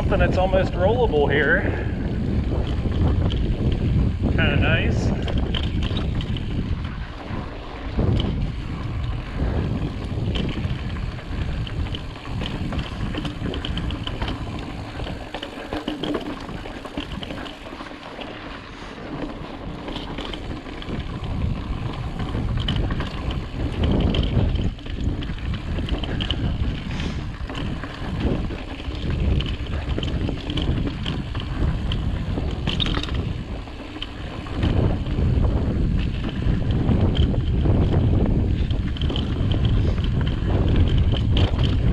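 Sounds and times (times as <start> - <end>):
mountain bike rumbling over rock: 0.0 - 41.9
wind buffeting microphone: 0.0 - 41.9
bike knocks and rattles: 2.2 - 41.9.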